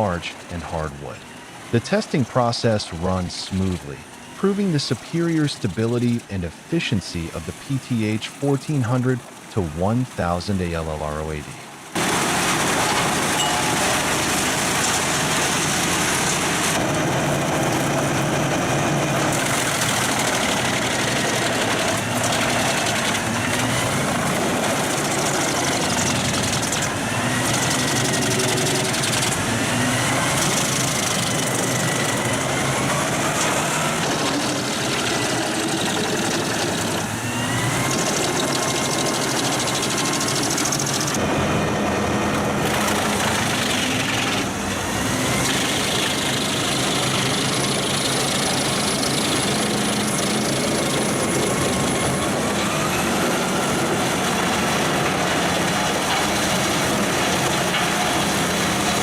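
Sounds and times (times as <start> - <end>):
wood chipper engine and cutting: 11.6 - 59.0.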